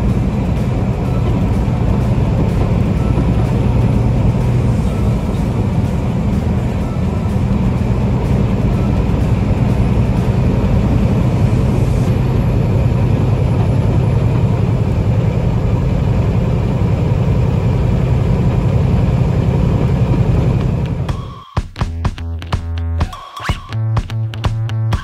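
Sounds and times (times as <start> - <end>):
road noise: 0.0 - 21.3
truck diesel engine drone: 0.0 - 21.5.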